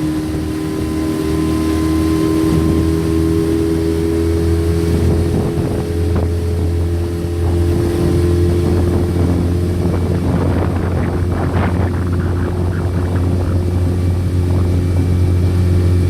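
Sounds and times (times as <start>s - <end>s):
boat motor running: 0.0s - 16.0s
water rushing: 0.0s - 16.0s.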